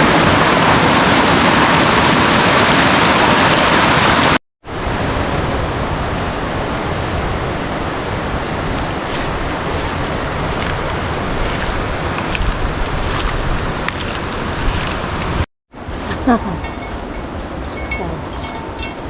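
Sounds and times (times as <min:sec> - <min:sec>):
rushing water: 0:00.0 - 0:15.9.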